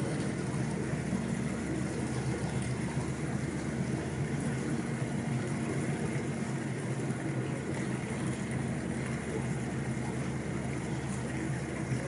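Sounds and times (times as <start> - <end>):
ferry engine droning: 0.0 - 12.0
water rushing along hull: 0.0 - 12.0.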